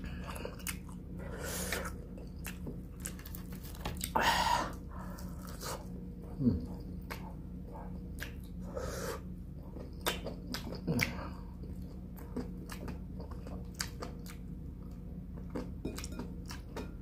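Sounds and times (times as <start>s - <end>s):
open-mouthed chewing: 0.0s - 16.8s.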